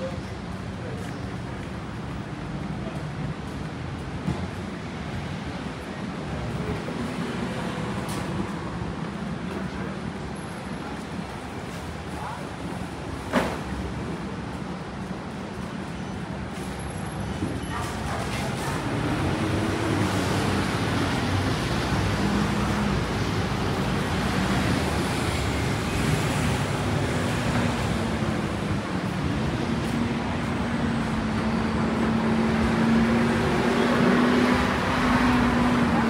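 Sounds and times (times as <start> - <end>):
street traffic: 0.0 - 36.0.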